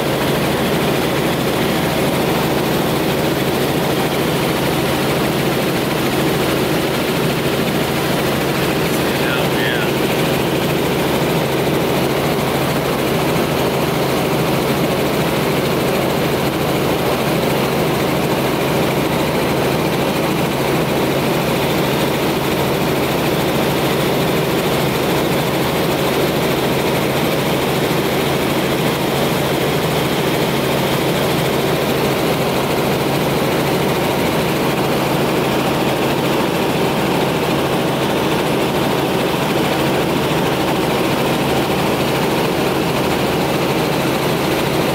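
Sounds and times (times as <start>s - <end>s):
helicopter engine and rotor drone: 0.0s - 44.9s.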